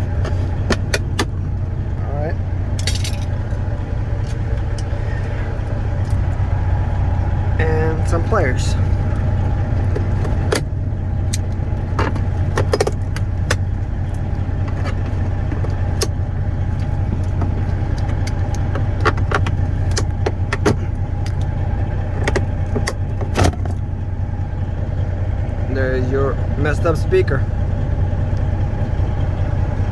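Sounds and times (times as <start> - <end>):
diesel truck engine idling: 0.0 - 29.9.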